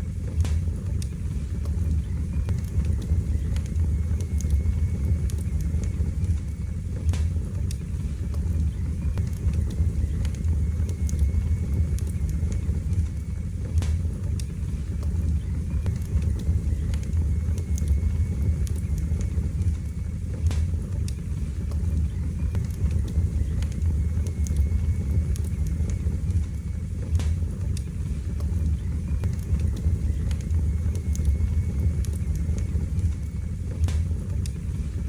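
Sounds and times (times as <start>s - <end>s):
fire crackling: 0.0s - 35.0s
fire rumbling: 0.0s - 35.0s
wood fire pops: 0.1s - 35.0s.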